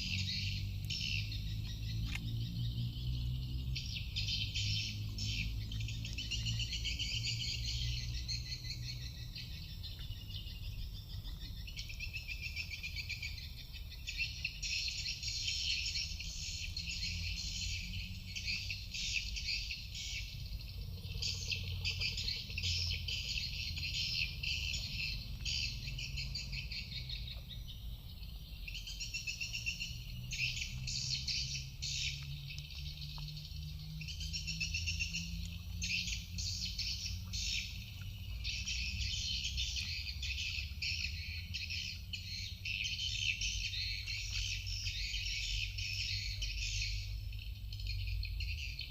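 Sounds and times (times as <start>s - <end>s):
low steady rumble: 0.0s - 48.9s.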